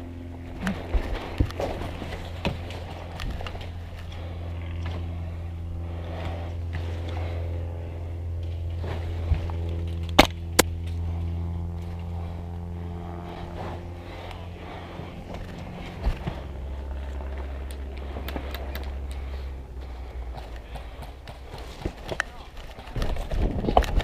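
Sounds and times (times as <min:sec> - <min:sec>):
low engine-like hum: 0:00.0 - 0:24.0.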